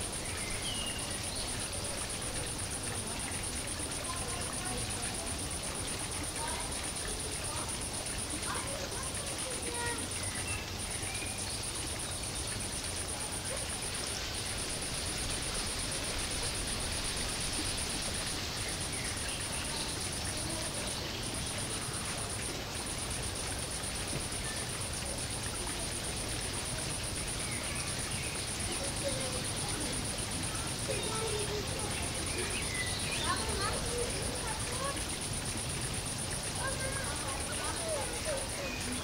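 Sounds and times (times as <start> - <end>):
ambient background noise: 0.0 - 39.0
high rapid insect-like trill: 0.0 - 39.0.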